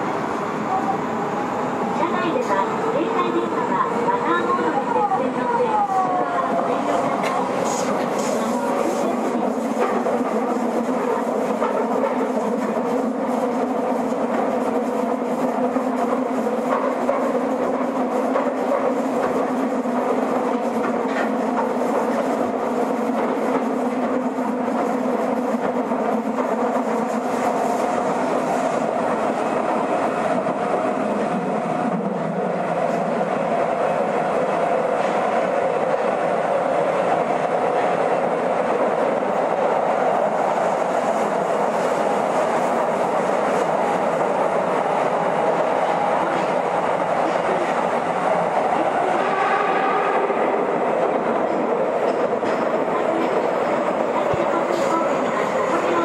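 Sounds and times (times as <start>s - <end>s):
train rumbling in tunnel: 0.0s - 56.0s
clickety-clack of rails: 2.0s - 56.0s.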